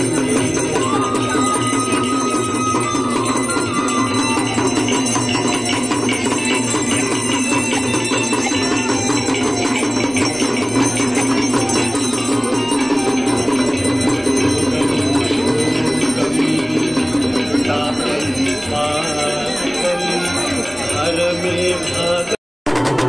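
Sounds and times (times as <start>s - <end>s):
hand bells ringing rapidly: 0.0s - 22.4s
loud devotional music: 0.0s - 23.0s.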